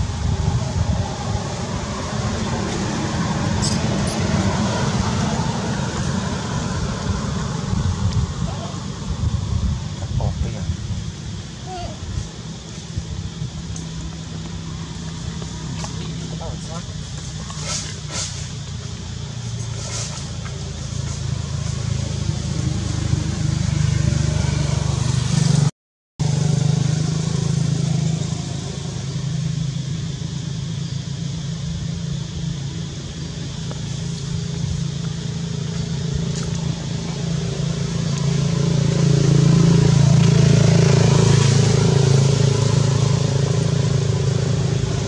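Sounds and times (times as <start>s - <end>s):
low engine drone: 0.0s - 25.4s, 26.2s - 45.0s.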